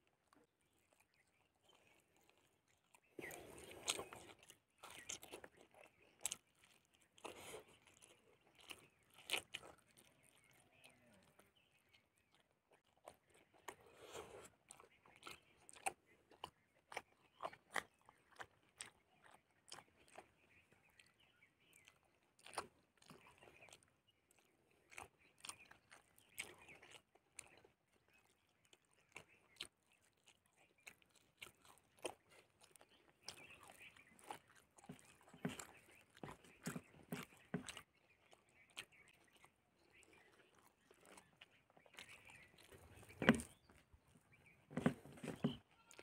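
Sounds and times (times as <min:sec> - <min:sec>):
person chewing with mouth clicks: 0:00.0 - 0:46.0.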